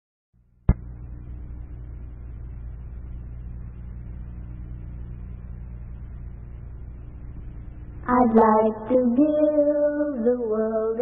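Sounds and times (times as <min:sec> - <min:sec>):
steady low hum with hiss: 0:00.4 - 0:11.0.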